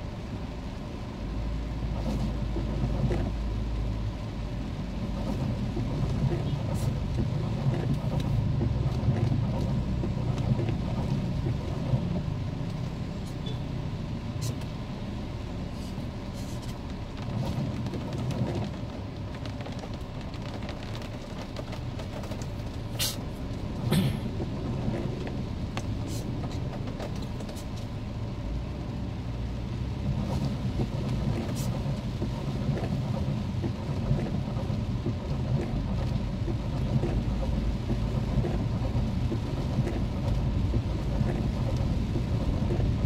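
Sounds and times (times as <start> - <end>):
engine and road noise rumble: 0.0 - 43.0.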